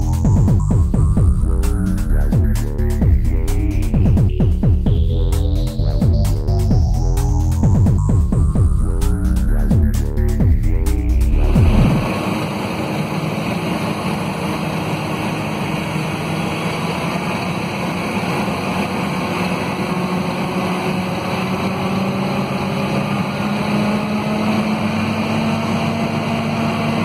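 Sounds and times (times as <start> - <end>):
bus diesel engine droning: 0.0 - 27.0.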